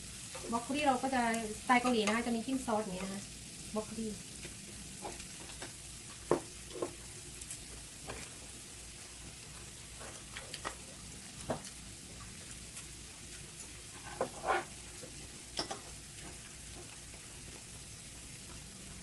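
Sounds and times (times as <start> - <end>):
food sizzling on a grill: 0.0 - 19.0.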